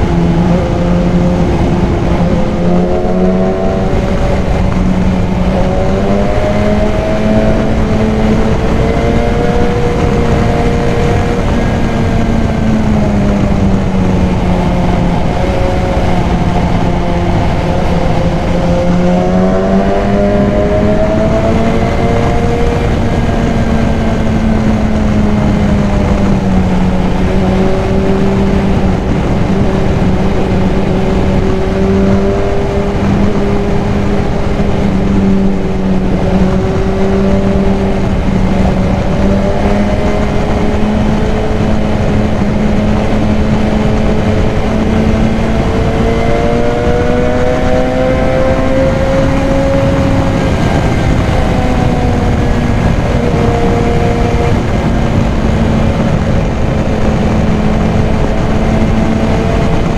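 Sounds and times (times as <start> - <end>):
motorcycle engine cruising: 0.0 - 59.9
wind rush: 0.0 - 59.9.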